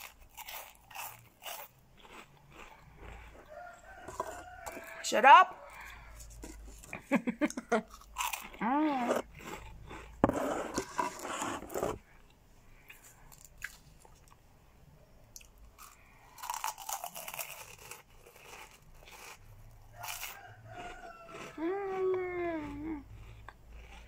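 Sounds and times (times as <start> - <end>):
crunchy snacks being chewed: 0.0 - 14.4, 15.3 - 24.0.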